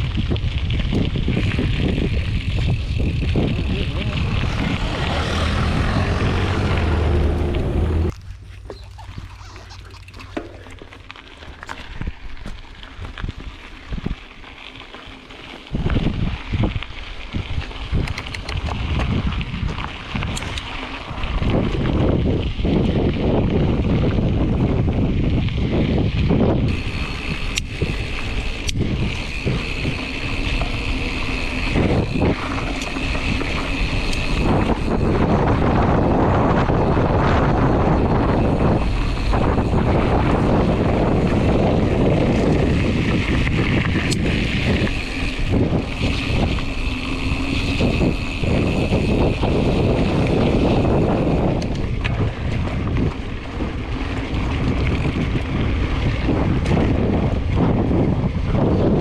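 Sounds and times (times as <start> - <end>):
wind buffeting microphone: 0.0 - 10.7, 15.7 - 59.0
tyres rumbling on dirt: 0.1 - 16.7, 17.8 - 59.0.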